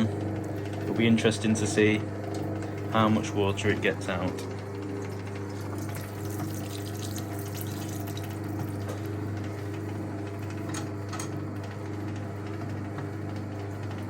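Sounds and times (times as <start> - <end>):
washing machine motor humming: 0.0 - 14.0.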